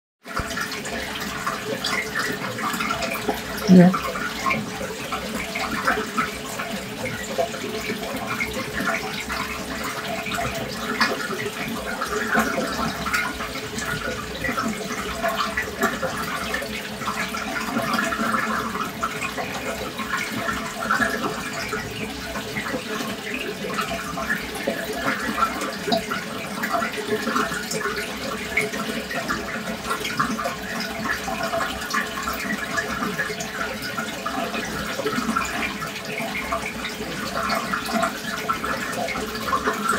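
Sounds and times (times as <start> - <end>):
water splashing and trickling: 0.2 - 39.9.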